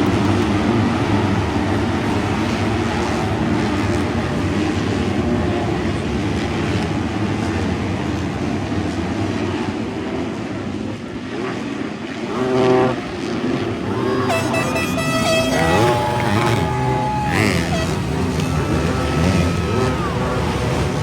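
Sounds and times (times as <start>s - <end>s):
dirt bike engines racing: 0.0s - 21.0s.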